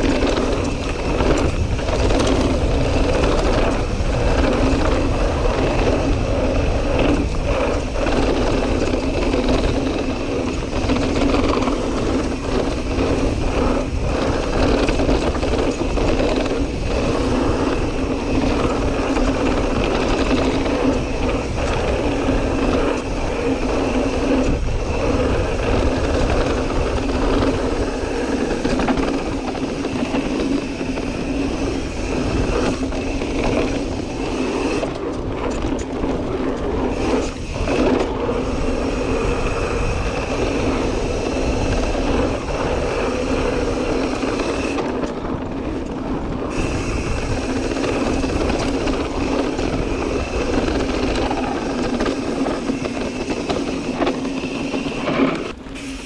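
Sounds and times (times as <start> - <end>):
bike rattling: 0.0 - 56.0
bike tyre noise on dirt: 0.0 - 56.0
wind rushing on microphone: 0.0 - 56.0.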